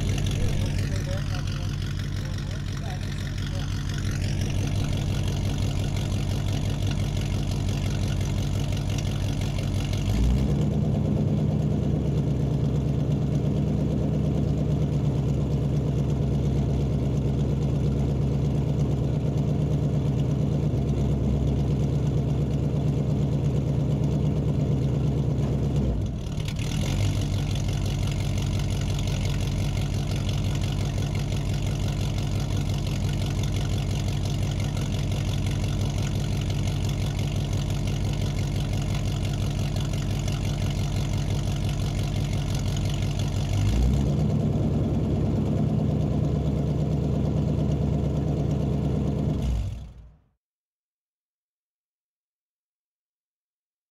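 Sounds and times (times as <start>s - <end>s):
car engine idling: 0.0s - 50.2s.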